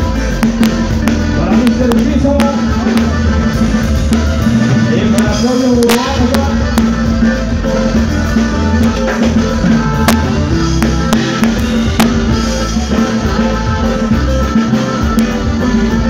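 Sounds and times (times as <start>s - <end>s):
acoustic guitar strumming: 0.0s - 16.0s
bass: 0.0s - 16.0s
drum kit steady beat: 0.0s - 16.0s.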